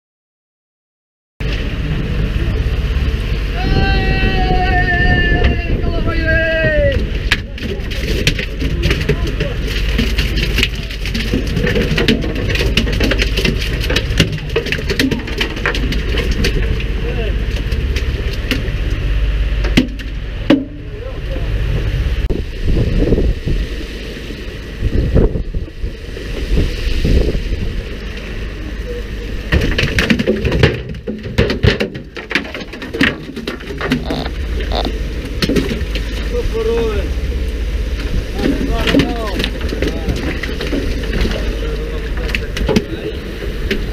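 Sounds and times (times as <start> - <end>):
boat engine running: 1.4 - 43.9
wind: 1.4 - 43.9.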